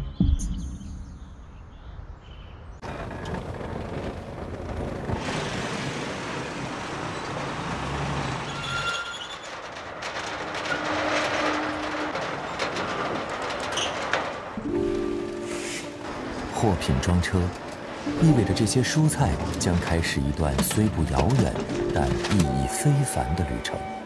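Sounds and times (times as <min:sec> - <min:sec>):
road noise: 0:01.5 - 0:24.0
truck engine: 0:02.8 - 0:24.0.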